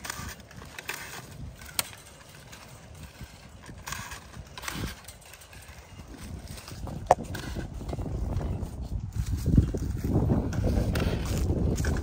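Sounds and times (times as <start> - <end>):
rustling of vine canes: 0.0 - 12.0.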